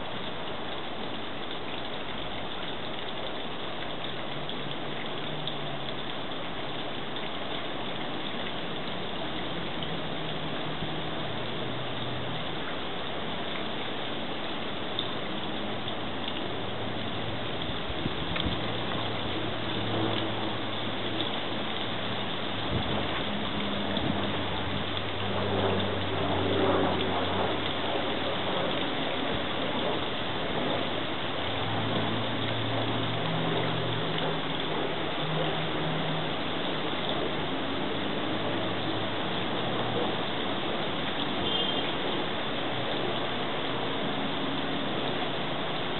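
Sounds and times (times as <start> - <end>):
fountain water splashing: 0.0 - 45.9.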